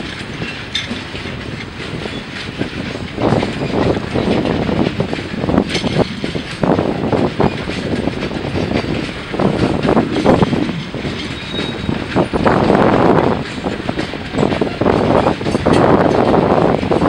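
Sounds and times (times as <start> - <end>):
freight train rumble: 0.0 - 17.0
railcar knocks and rattles: 0.0 - 17.0.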